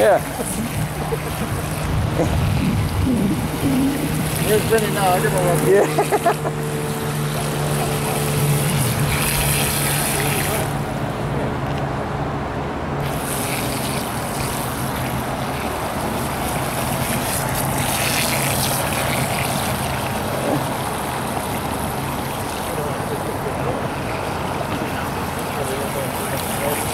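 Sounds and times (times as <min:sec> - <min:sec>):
toy speedboat motor humming: 0:00.0 - 0:11.2, 0:13.0 - 0:26.9
choppy water noise: 0:00.0 - 0:26.9.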